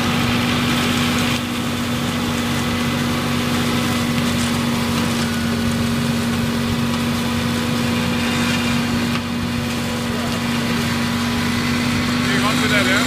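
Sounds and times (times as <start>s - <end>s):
flail mower cutting grass: 0.0s - 13.0s
tractor running under load: 0.0s - 13.0s.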